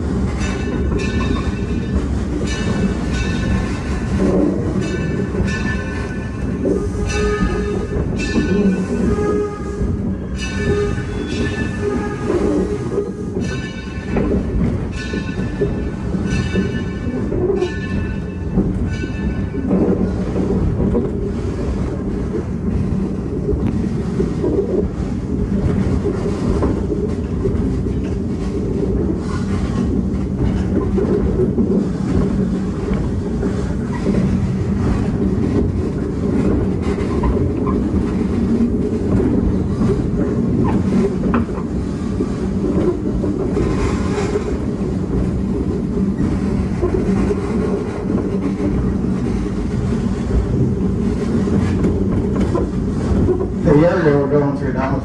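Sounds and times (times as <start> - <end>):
train rumble: 0.0 - 55.0
train wheels clicking: 0.0 - 55.0.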